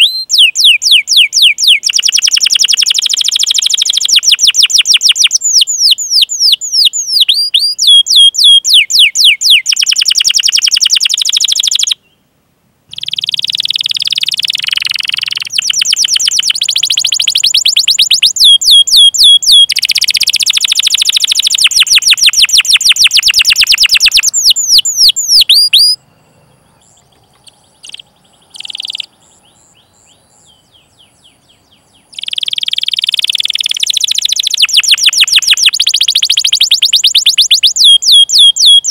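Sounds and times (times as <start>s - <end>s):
canary singing: 0.0s - 12.2s, 12.9s - 38.9s.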